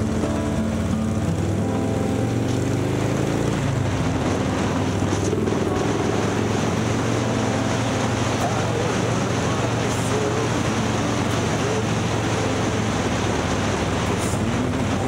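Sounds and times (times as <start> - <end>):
steady rushing noise: 0.0 - 15.0
vehicle engine running: 0.0 - 15.0.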